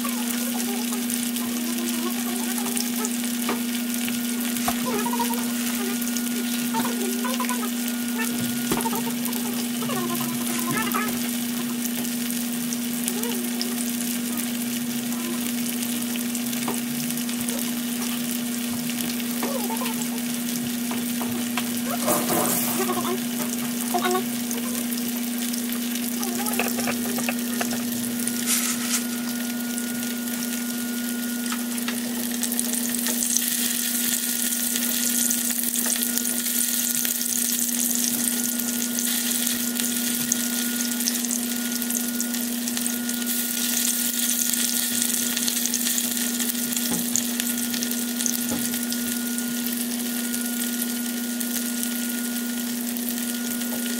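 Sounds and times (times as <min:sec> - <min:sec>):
sausages sizzling in oil: 0:00.0 - 0:53.9.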